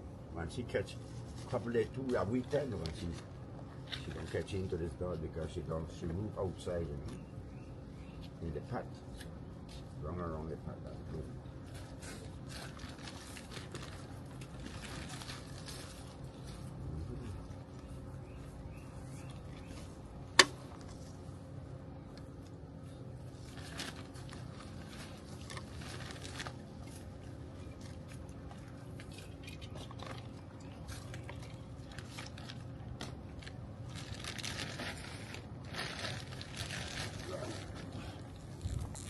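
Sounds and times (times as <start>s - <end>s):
hands handling soil and pots: 0.8s - 5.3s, 10.8s - 39.0s.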